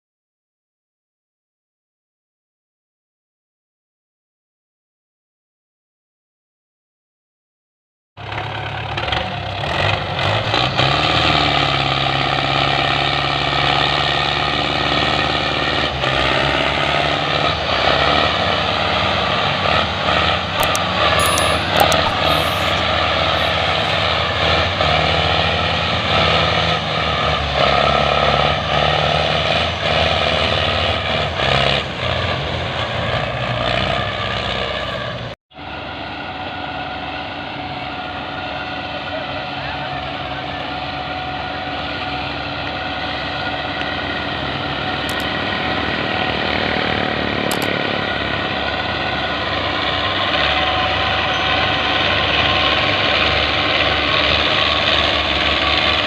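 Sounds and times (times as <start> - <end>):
tractor diesel engines revving: 8.2 - 56.0.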